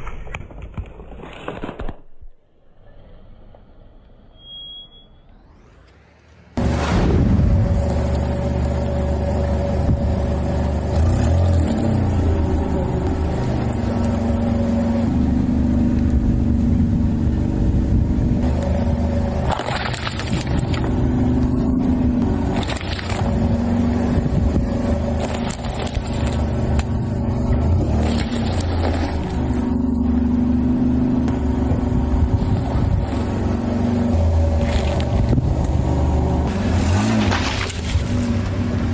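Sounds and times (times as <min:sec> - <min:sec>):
car engine running: 0:06.6 - 0:38.9.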